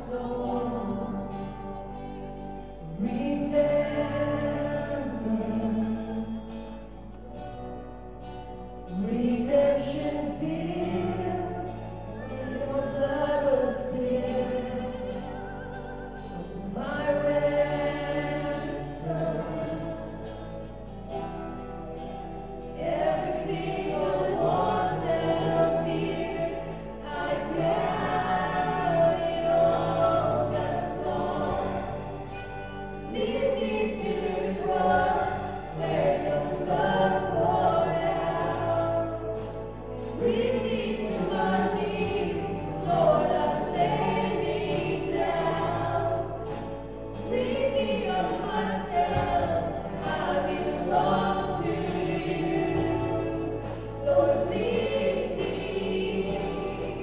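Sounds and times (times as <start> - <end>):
group of singers singing: 0.0 - 57.0.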